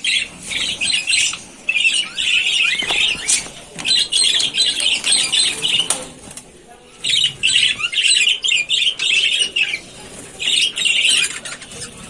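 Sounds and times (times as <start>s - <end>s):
budgerigars chattering and squawking: 0.0s - 6.3s, 7.0s - 12.0s.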